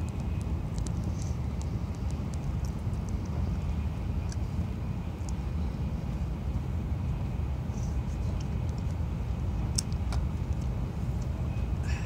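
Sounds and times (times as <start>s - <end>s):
train cabin rumble and hiss: 0.0s - 12.0s.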